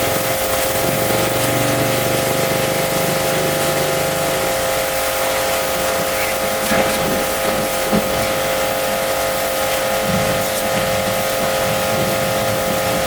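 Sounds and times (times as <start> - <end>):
pressure washer motor whine: 0.0 - 13.0
water spray hissing: 0.0 - 13.0.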